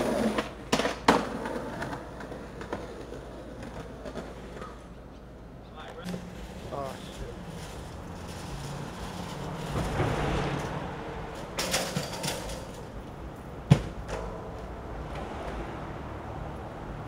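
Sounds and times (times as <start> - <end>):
low street hum: 0.0 - 17.0.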